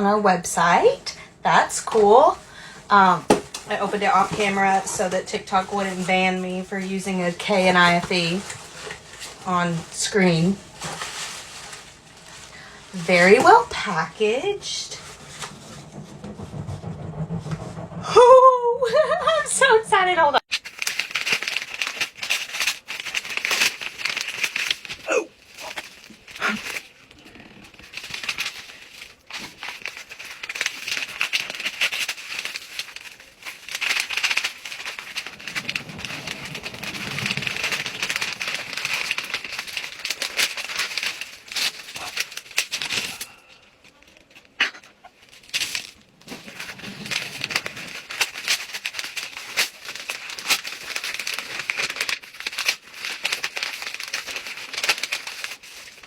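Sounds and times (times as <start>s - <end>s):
packing material crinkling: 0.6s - 17.9s, 20.4s - 56.0s.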